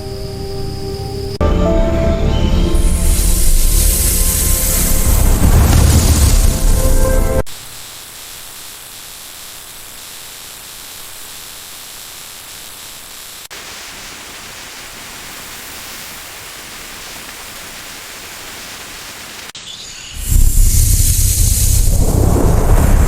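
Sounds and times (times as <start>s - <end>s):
static hiss: 2.7s - 23.0s.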